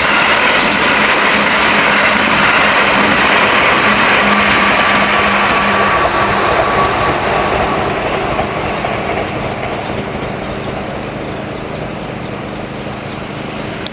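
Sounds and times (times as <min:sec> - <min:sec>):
train wheels rolling on rails: 0:00.0 - 0:13.9.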